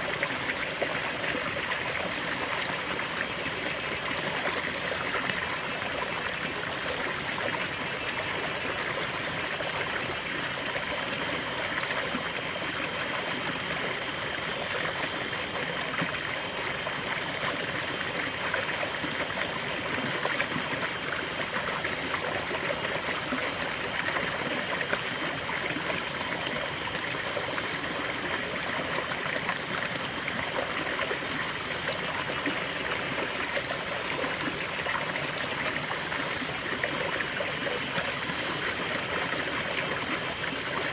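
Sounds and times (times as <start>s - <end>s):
waterfall and stream flowing: 0.0s - 40.9s.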